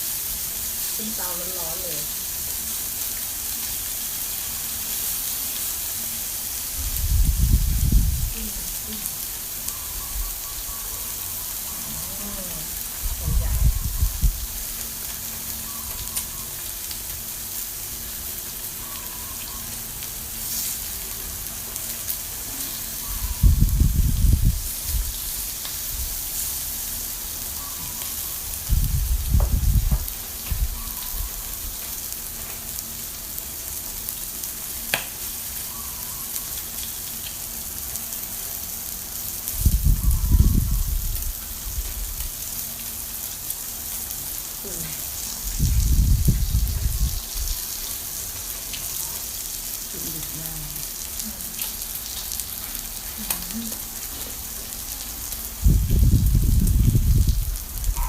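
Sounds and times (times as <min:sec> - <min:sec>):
meat sizzling on a grill: 0:00.0 - 0:58.0.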